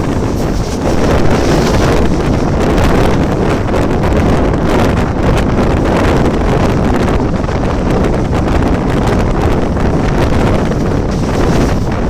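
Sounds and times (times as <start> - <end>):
train running on track: 0.0 - 12.0
wind buffeting microphone: 0.0 - 12.0.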